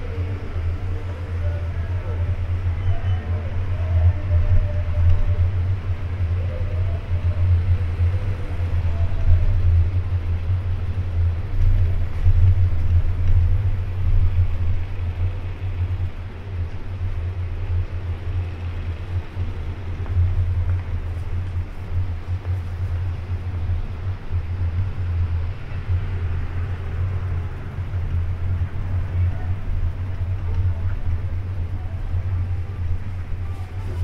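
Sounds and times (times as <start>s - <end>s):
faint hiss of street noise: 0.0s - 34.0s
low rumble of city ambience: 0.0s - 34.0s.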